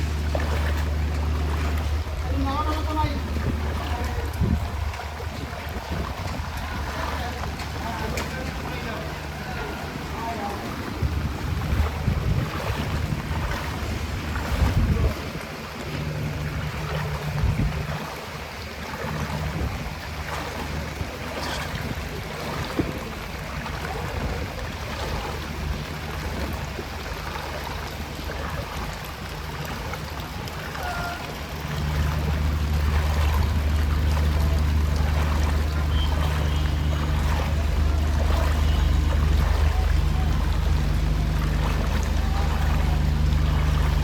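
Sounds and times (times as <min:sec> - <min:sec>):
floodwater sloshing and splashing: 0:00.0 - 0:44.0
motor engine running: 0:00.0 - 0:44.0.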